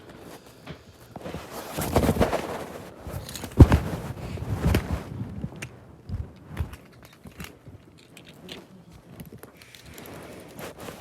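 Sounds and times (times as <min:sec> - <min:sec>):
rustling and handling noise: 0:00.0 - 0:11.0.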